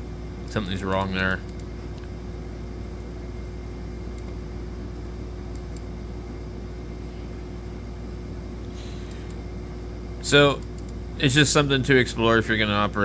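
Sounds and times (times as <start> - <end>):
low room hum drone: 0.0 - 13.0.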